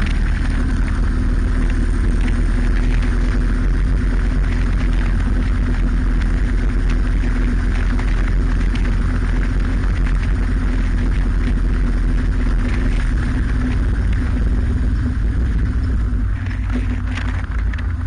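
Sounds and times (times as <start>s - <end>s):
motorcycle engine running: 0.0s - 18.0s
wind rumble on microphone: 0.0s - 18.0s.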